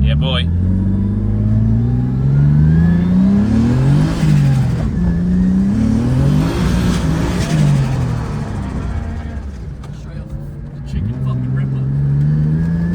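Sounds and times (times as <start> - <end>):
car engine revving hard: 0.0 - 12.9.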